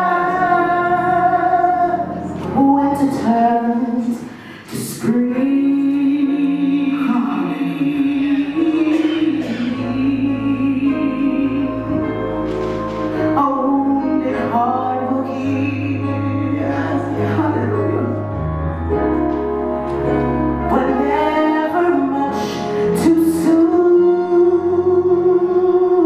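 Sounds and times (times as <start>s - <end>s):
instrumental accompaniment: 0.0s - 26.0s
slow church singing: 0.0s - 26.0s.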